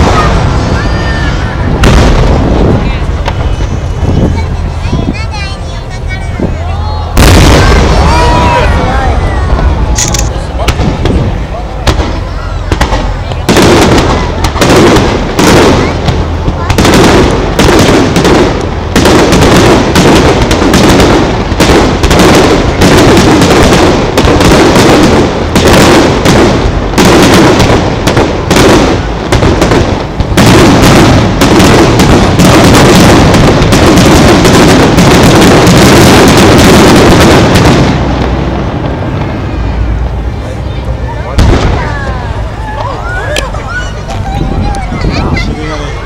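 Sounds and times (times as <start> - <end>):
fireworks bursting with loud bangs: 0.0 - 46.0
fireworks rumble and crackle: 0.0 - 46.0.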